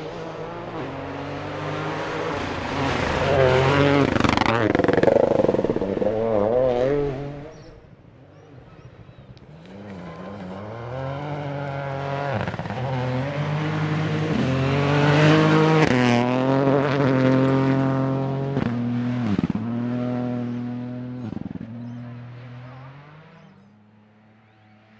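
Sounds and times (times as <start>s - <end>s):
rally car engine at full throttle: 0.0s - 24.9s.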